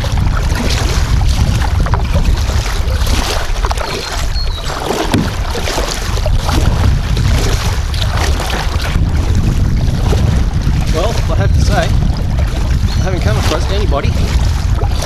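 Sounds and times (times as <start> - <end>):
paddle splashing: 0.0 - 15.0
water lapping under hull: 0.0 - 15.0
wind rumble on microphone: 0.0 - 15.0.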